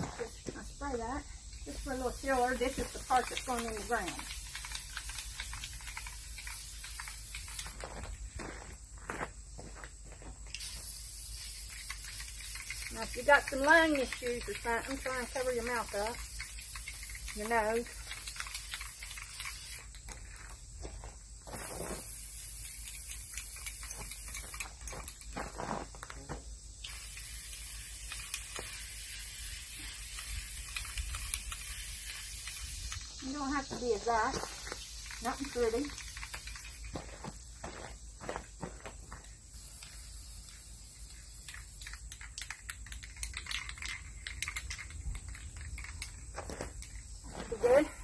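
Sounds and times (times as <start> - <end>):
aerosol spray can hissing: 0.2 - 7.8, 10.5 - 20.5, 21.4 - 24.7, 26.6 - 38.6, 39.2 - 45.9.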